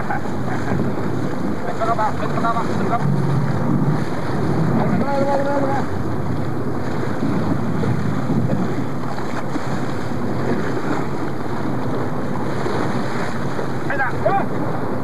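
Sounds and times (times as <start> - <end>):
water splashing against boat hull: 0.0 - 15.0
wind on microphone: 0.0 - 15.0.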